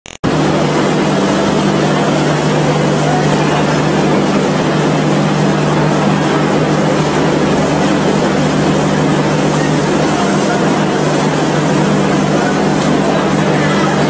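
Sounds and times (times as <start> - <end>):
vehicle running: 0.2 - 14.0.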